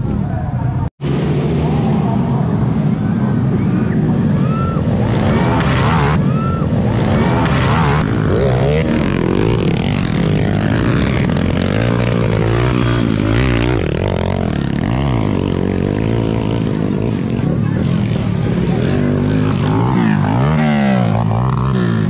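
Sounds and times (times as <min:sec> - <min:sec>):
dirt bike engines revving past: 0:00.0 - 0:22.0.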